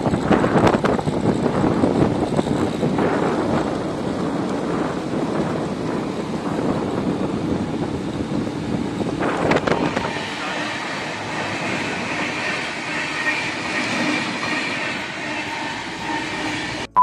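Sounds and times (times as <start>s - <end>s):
wind buffeting microphone: 0.0s - 16.9s
passenger train rolling past: 0.0s - 17.0s.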